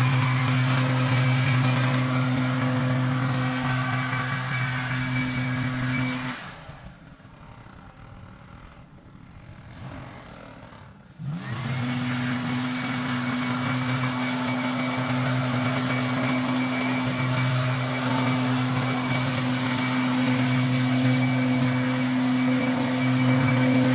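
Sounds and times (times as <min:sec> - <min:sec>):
engine running at high speed: 0:00.0 - 0:23.9.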